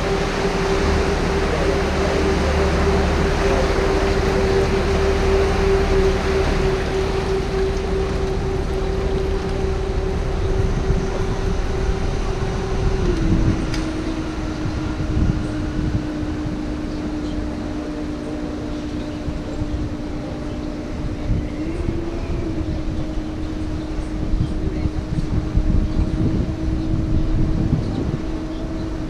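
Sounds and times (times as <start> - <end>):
boat motor droning: 0.0 - 29.0.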